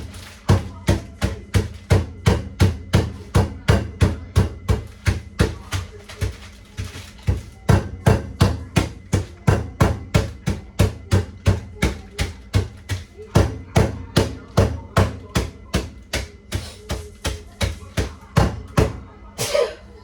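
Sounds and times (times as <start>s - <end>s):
heavy pounding thumps: 0.0s - 6.4s, 7.2s - 19.0s.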